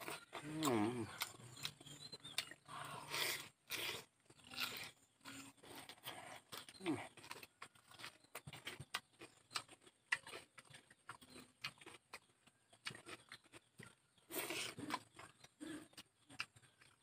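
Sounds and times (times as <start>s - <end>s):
crunching bite: 0.0s - 17.0s
person chewing with mouth open: 0.0s - 17.0s.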